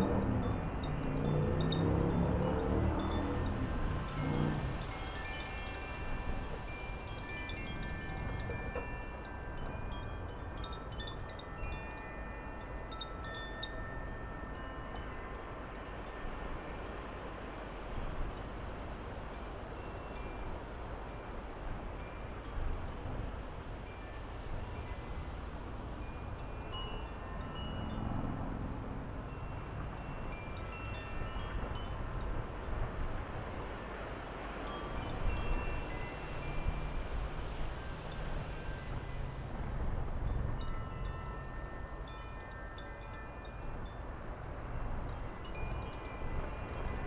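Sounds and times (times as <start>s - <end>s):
wind chimes ringing: 0.0s - 17.3s, 18.0s - 23.2s, 23.8s - 47.0s.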